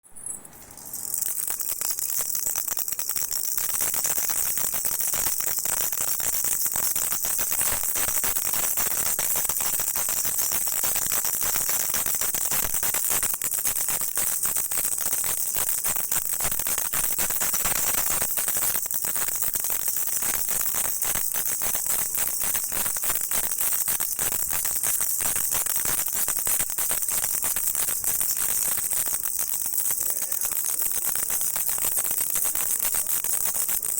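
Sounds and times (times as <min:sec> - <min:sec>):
rattle shaken: 0:00.1 - 0:33.9.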